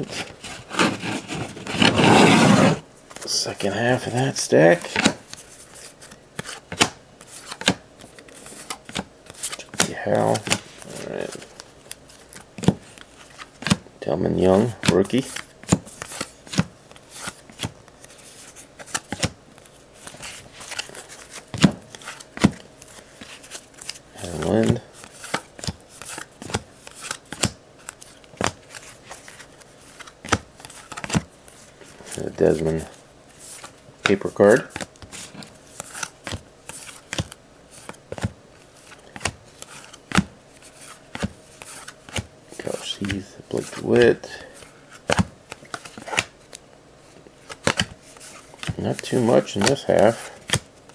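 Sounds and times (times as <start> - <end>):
cards rustling: 3.1 - 50.9.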